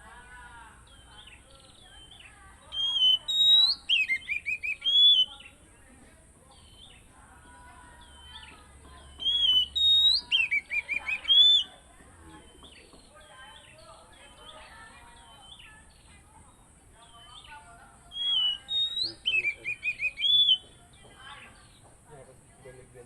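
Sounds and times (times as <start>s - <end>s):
magpie-robin singing: 0.0s - 23.0s.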